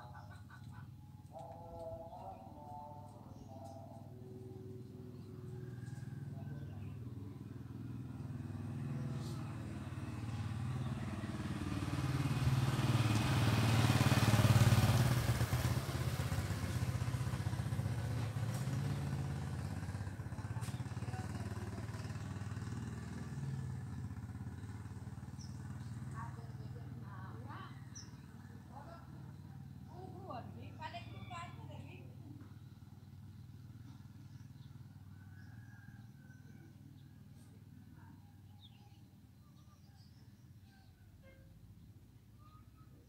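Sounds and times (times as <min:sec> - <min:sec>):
motorcycle passing by: 0:00.1 - 0:40.8.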